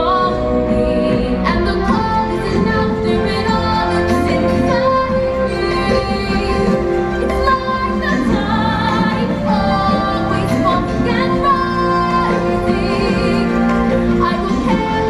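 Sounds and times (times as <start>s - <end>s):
instrumental backing music: 0.0s - 15.0s
woman singing: 0.0s - 15.0s.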